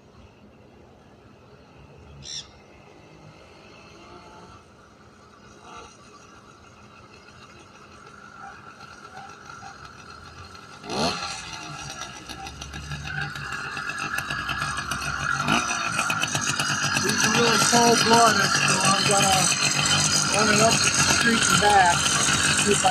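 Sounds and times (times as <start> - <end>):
small two-stroke engine revving: 1.6 - 22.9.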